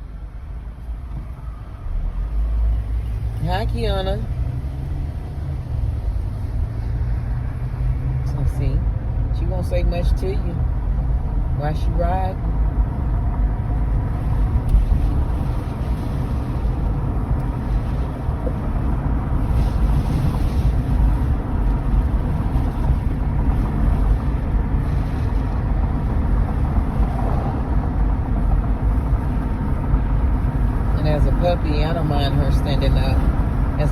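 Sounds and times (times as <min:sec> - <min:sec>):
car cabin road and engine rumble: 0:00.0 - 0:33.9.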